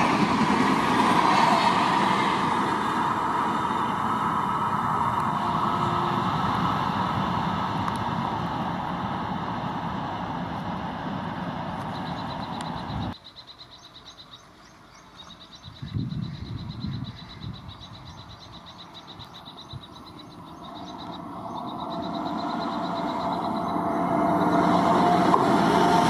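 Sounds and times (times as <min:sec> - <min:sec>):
train coaches rumbling and clattering: 0:00.0 - 0:13.2, 0:15.9 - 0:26.0
approaching electric train rumble: 0:00.0 - 0:26.0.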